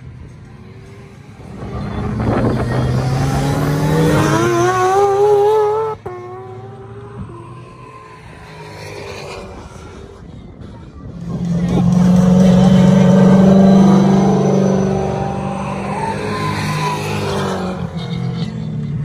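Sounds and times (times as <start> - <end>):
distant car engine: 0.0 - 19.0
car engine accelerating past: 1.4 - 10.2, 11.1 - 18.9.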